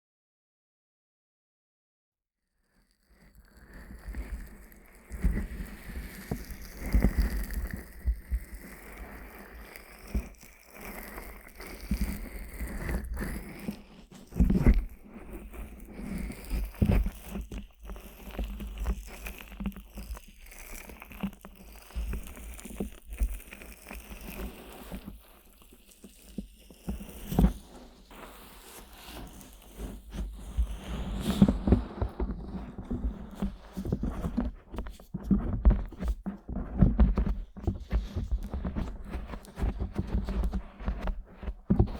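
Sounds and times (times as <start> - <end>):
fingers rubbing microphone: 3.9 - 41.9.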